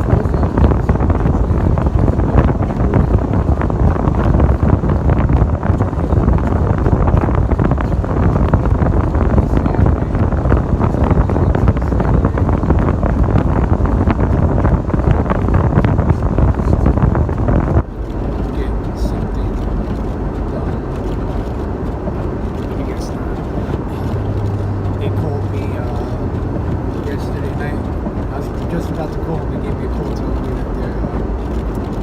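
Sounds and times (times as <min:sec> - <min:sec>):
truck driving rumble: 0:00.0 - 0:32.0
wind buffeting microphone: 0:00.0 - 0:32.0.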